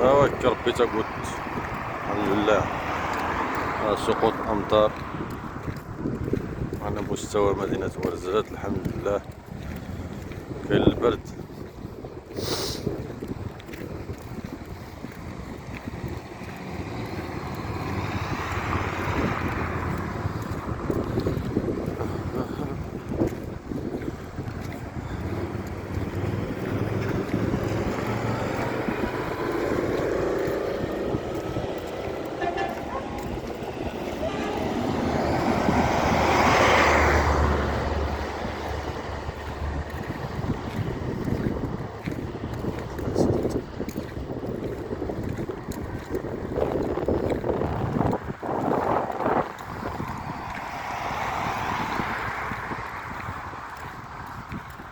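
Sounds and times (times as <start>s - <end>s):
vehicle passing on wet road: 0.0s - 54.9s
wind buffeting microphone: 0.0s - 54.9s.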